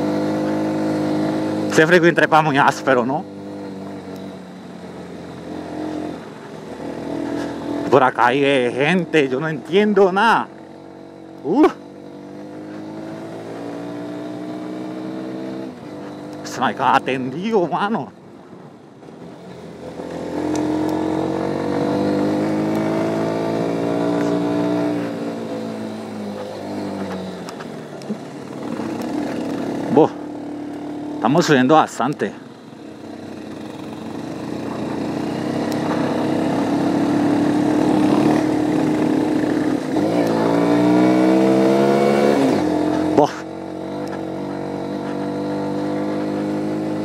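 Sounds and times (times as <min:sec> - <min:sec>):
small motorcycle engine: 0:00.0 - 0:18.1, 0:18.7 - 0:47.0.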